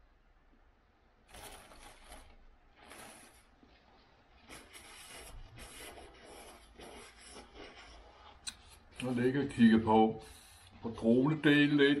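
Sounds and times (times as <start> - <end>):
paper napkin rustling: 1.3 - 11.0.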